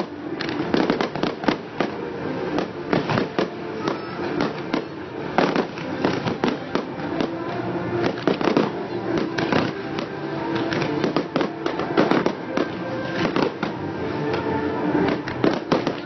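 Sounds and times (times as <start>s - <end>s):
fireworks bangs: 0.0s - 16.0s
fireworks popping and crackling: 0.0s - 16.0s.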